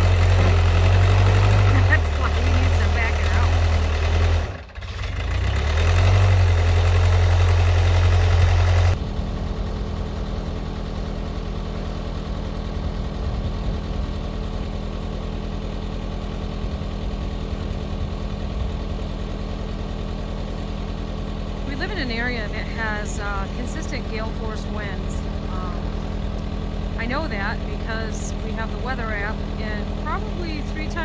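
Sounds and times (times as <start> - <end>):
skid steer engine running: 0.0 - 31.0.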